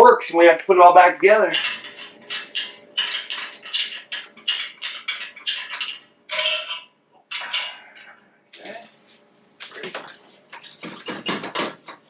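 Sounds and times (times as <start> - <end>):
metal tools clinking and rattling: 1.5 - 8.9, 9.8 - 12.0.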